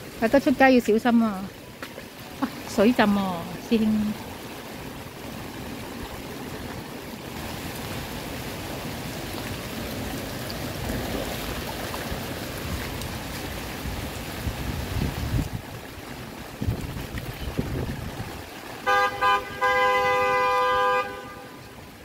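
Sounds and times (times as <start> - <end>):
running water on street: 0.0 - 22.0.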